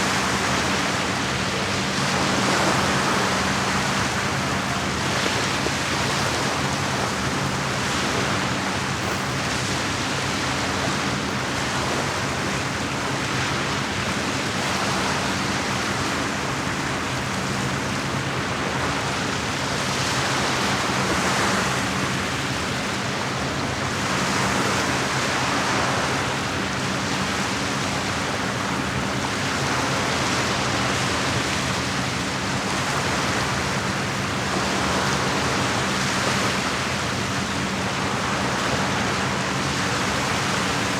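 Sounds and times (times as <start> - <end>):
lake waves washing on shore: 0.0 - 40.9.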